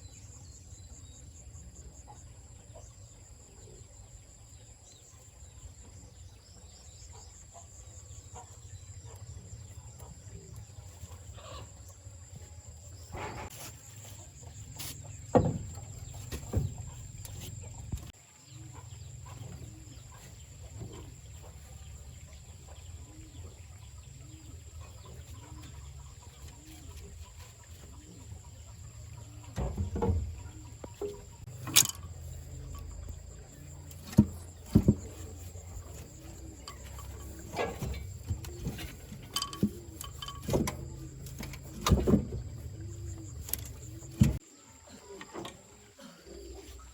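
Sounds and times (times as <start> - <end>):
chickens clucking: 7.1 - 12.0, 12.9 - 46.9.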